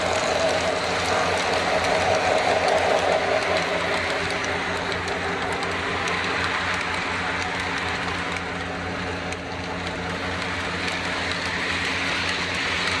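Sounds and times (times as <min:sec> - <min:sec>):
model train motor hum: 0:00.0 - 0:13.0.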